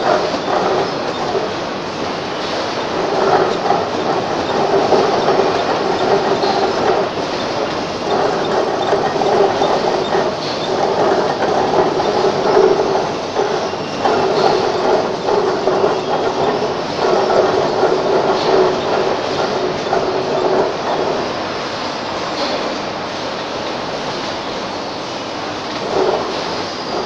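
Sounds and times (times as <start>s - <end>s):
machine hum: 0.0s - 27.0s
wrapping machine rumble and rattle: 0.0s - 27.0s.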